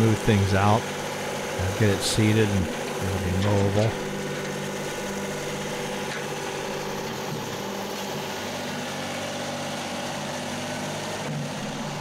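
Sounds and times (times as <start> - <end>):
loader bucket grading soil: 0.0 - 12.0
tractor diesel engine running: 0.0 - 12.0.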